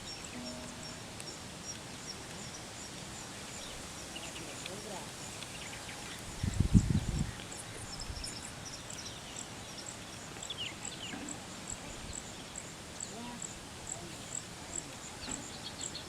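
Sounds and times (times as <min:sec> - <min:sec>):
high insect chirp: 0:00.0 - 0:16.0
small birds chirping: 0:00.0 - 0:16.0.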